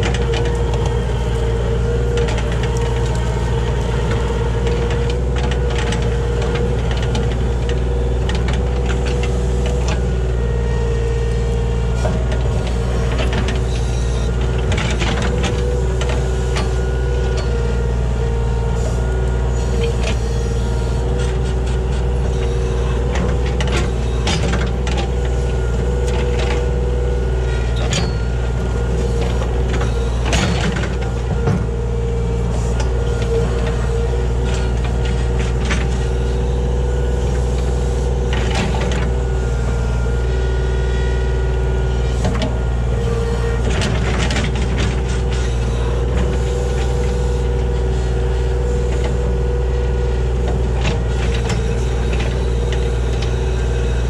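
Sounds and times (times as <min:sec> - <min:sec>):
diesel excavator engine running: 0:00.0 - 0:54.0.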